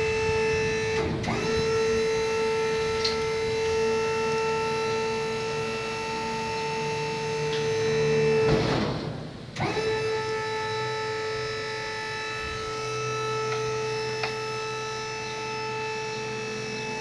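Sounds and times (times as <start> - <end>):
hydraulic pump whining: 0.0 - 17.0.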